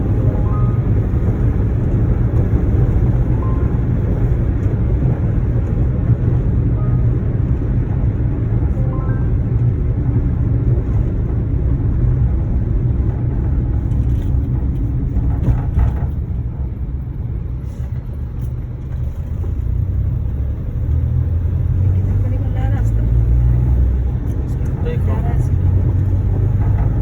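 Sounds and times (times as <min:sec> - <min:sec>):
vehicle rumbling in motion: 0:00.0 - 0:27.0.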